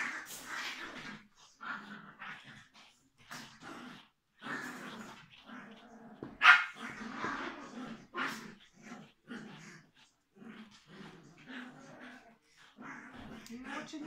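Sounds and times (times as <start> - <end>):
puppy vocalising: 0.0 - 14.0.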